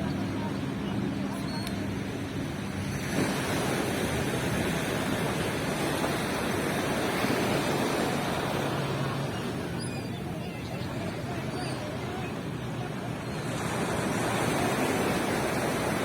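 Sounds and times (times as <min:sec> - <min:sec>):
wave breaking on a beach: 0:02.0 - 0:09.8, 0:10.9 - 0:16.0.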